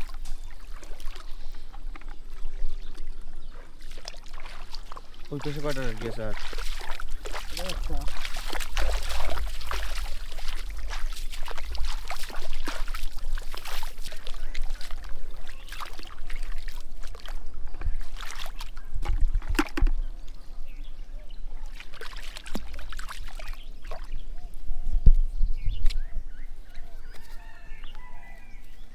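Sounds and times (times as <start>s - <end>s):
water splashing and trickling: 0.0s - 24.7s.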